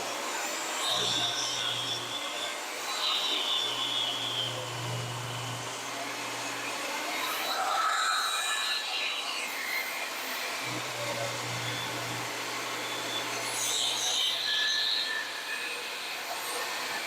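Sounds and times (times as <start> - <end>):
electric table saw running: 0.0 - 17.0.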